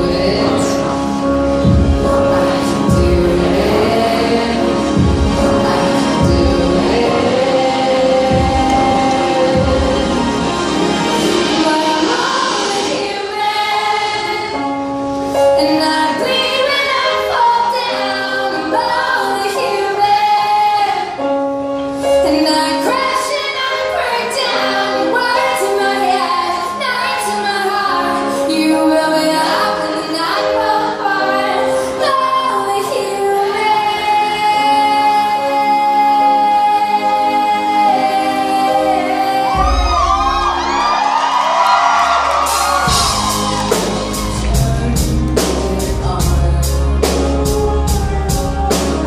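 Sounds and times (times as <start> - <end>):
woman singing: 0.0 - 1.0, 1.6 - 14.8, 15.4 - 21.4, 22.0 - 40.6, 42.9 - 49.0
piano accompaniment: 0.0 - 49.0.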